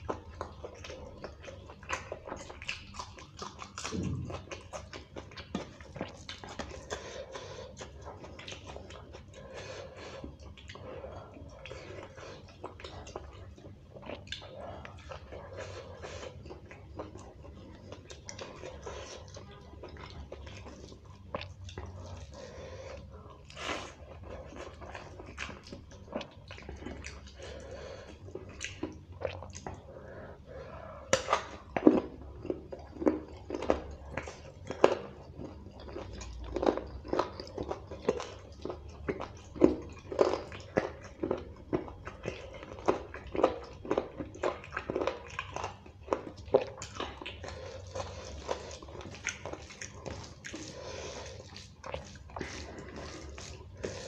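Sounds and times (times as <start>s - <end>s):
faint low hum: 0.0s - 54.0s
person chewing food: 0.0s - 54.0s.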